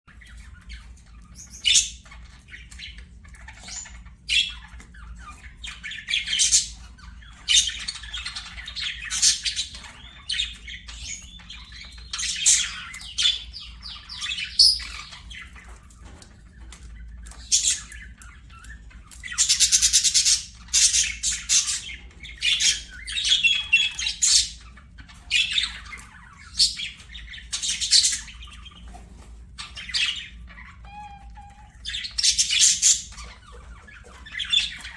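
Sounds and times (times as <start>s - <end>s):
budgerigars chattering and squawking: 0.1s - 34.9s.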